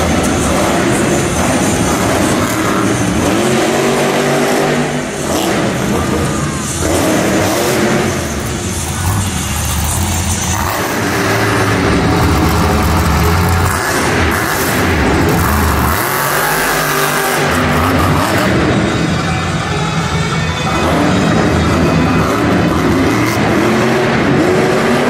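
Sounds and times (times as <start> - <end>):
monster truck engines revving: 0.0 - 25.0.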